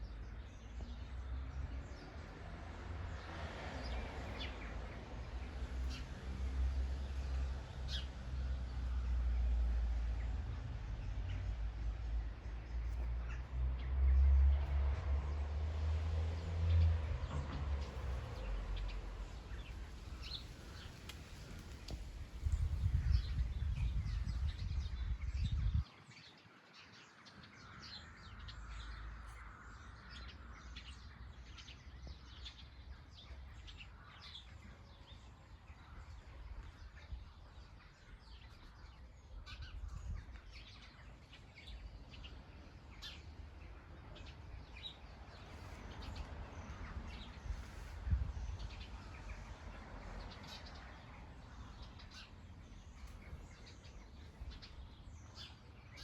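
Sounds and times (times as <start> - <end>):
small birds chirping: 0.0 - 14.8, 16.4 - 56.0.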